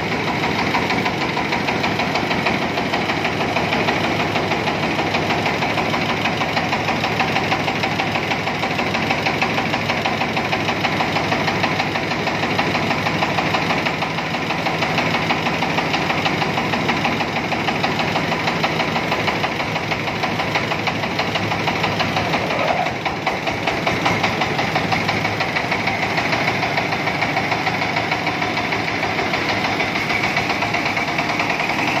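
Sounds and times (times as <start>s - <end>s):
milling machine engine knocking: 0.0s - 32.0s.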